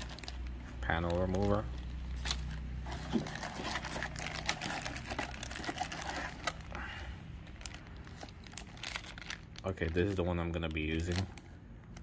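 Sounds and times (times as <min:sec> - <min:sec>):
cardboard and plastic bag crinkling: 0:00.0 - 0:12.0.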